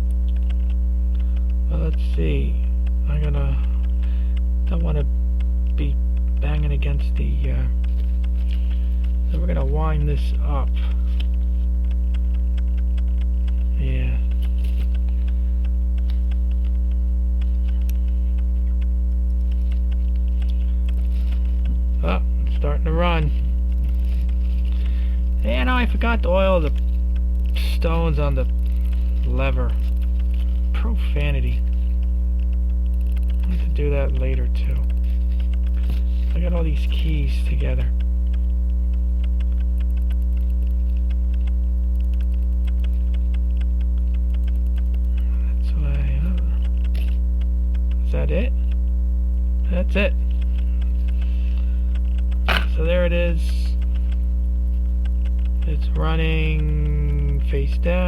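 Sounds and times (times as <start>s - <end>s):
electrical mains hum: 0.0s - 58.0s
pocket watch ticking: 0.1s - 48.9s, 49.6s - 58.0s.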